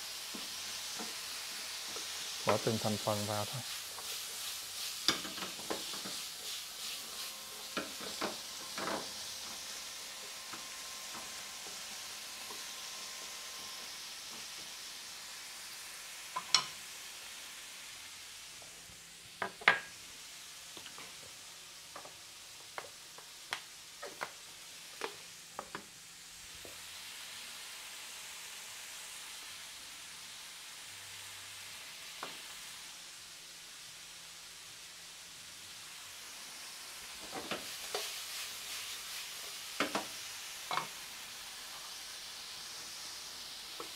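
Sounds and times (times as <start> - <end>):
vegetables sizzling in a frying pan: 0.0 - 43.9.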